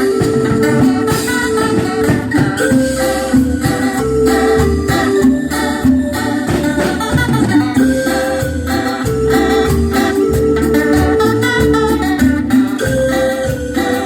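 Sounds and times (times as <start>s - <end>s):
cumbia band playing: 0.0s - 14.0s.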